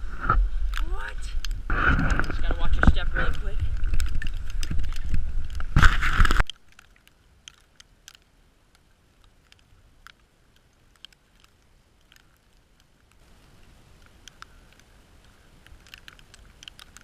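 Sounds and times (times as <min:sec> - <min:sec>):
faint clicks and ticks: 0:00.2 - 0:17.0.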